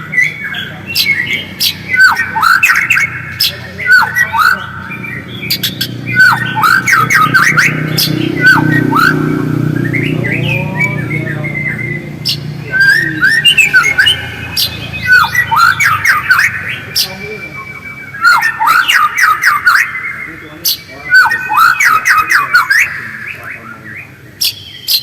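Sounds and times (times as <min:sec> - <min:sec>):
bird singing chattering phrases: 0:00.0 - 0:25.0.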